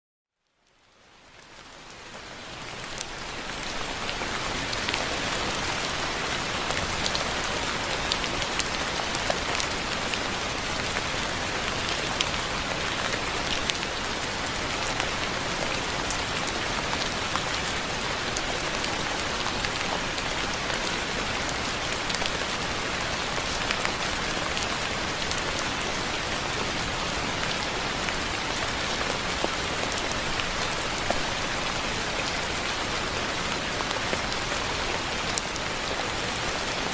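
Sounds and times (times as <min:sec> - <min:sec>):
soft rain falling: 0:00.3 - 0:36.9.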